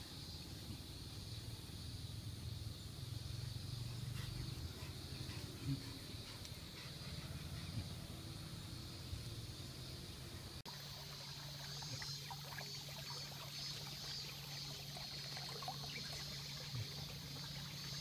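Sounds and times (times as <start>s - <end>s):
steady high hiss: 0.0s - 18.0s
stream water trickling: 0.0s - 18.0s.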